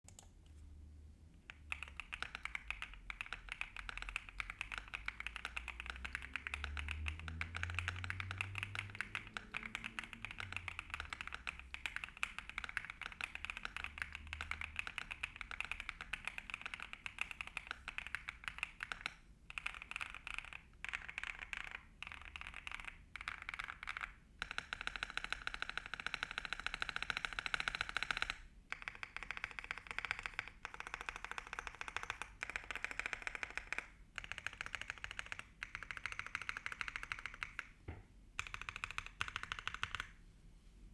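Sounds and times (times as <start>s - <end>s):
typing on mechanical keyboard: 1.5s - 37.8s, 38.4s - 40.2s.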